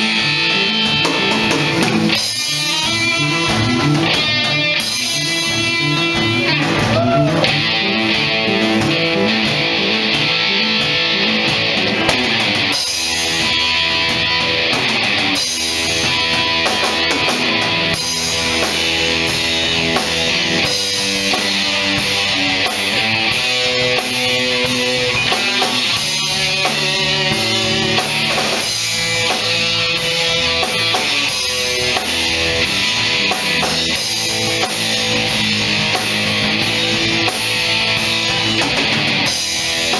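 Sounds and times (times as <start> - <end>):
drums steady beat: 0.0 - 39.9
guitars playing melody and chords: 0.0 - 39.9
live instrumental band: 0.0 - 39.9.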